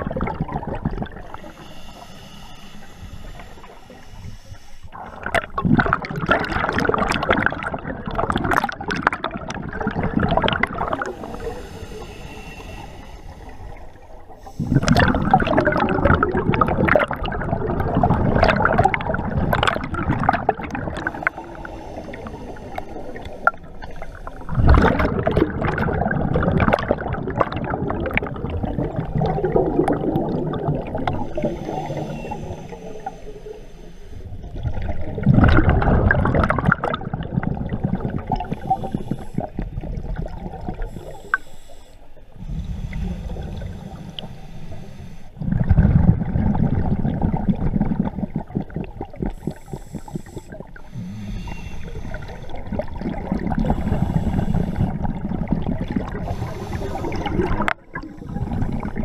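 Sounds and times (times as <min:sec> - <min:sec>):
underwater regulator bubbles gurgling: 0:00.0 - 0:59.0.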